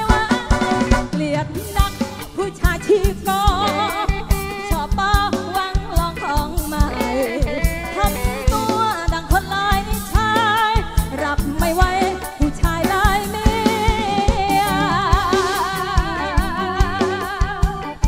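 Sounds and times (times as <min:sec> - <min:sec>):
amplified live band: 0:00.0 - 0:18.0
drum kit steady beat: 0:00.0 - 0:18.0
woman singing with vibrato: 0:00.0 - 0:18.0.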